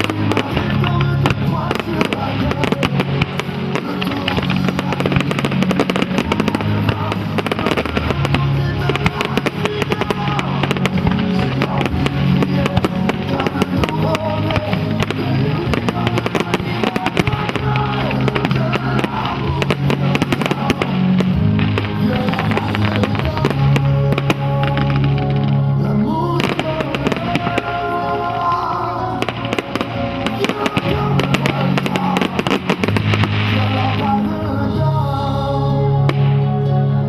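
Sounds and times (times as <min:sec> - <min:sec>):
fireworks popping and crackling: 0:00.0 - 0:34.8
music soundtrack: 0:00.0 - 0:37.0.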